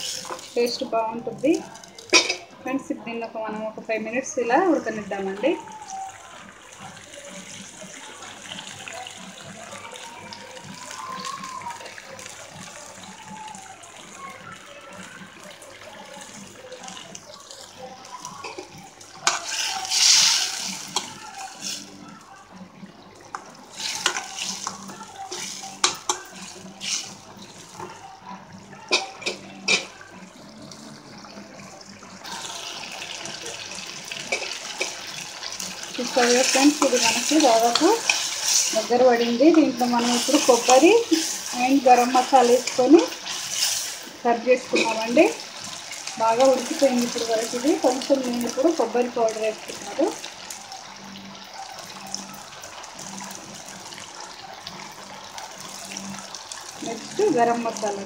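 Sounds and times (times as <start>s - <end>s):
curry bubbling: 0.0s - 58.0s.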